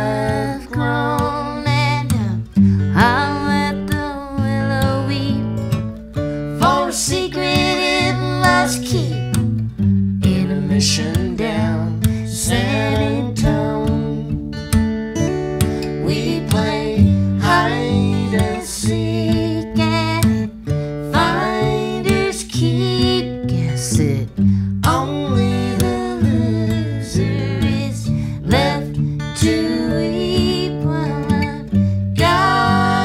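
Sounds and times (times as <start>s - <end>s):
person singing: 0.0s - 9.3s, 10.2s - 14.5s, 15.7s - 33.0s
bass line: 0.0s - 33.0s
strummed acoustic guitar: 0.0s - 33.0s.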